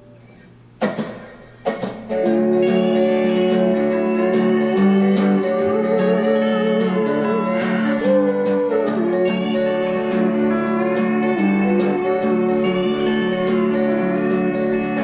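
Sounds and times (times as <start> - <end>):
instrumental slide guitar music: 2.0 - 15.0.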